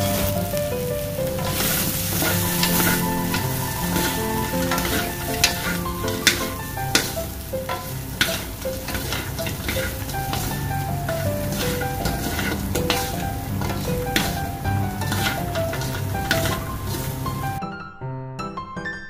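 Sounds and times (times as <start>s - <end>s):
food sizzling in a wok: 0.0s - 17.6s
spatulas scraping a wok: 0.0s - 17.6s.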